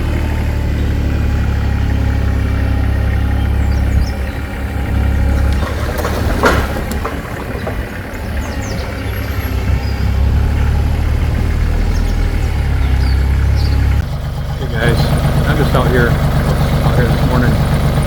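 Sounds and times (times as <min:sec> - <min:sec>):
machine engine running: 0:00.0 - 0:18.0.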